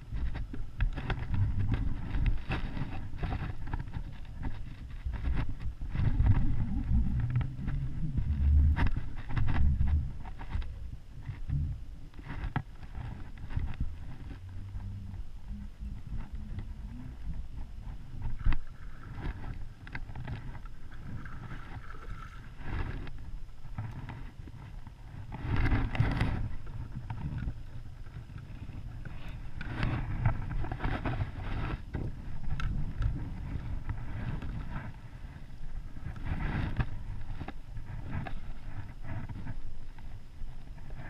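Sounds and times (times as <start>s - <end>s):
water slapping kayak hull: 0.0s - 41.0s
wind buffeting microphone: 0.0s - 41.0s.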